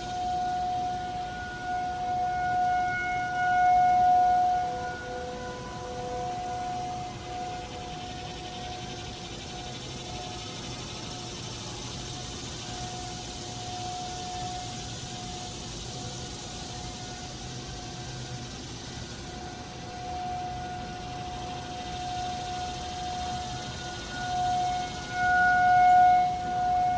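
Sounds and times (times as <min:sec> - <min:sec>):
cicadas droning: 0:00.0 - 0:26.9
distant warning sirens wailing: 0:00.0 - 0:26.9.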